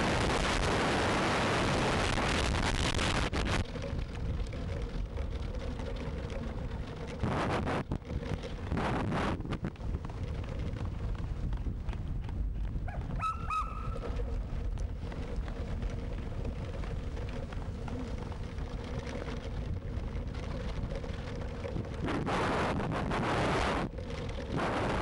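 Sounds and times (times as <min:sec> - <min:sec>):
wind on microphone: 0:00.0 - 0:05.7, 0:06.5 - 0:25.0
cart wheels rumbling on dirt: 0:00.0 - 0:25.0.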